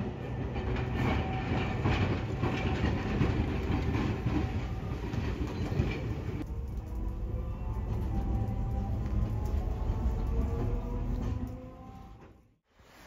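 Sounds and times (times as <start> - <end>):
rail clicks: 0.0 - 12.4
streetcar rumbling on rails: 0.0 - 12.6.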